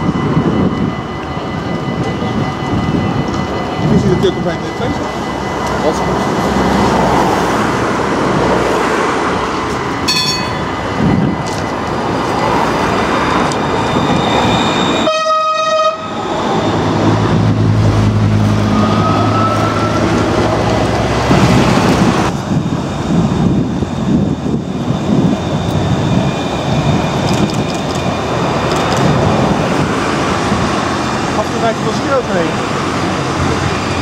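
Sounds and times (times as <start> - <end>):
tram wheels rumbling: 0.0 - 34.0.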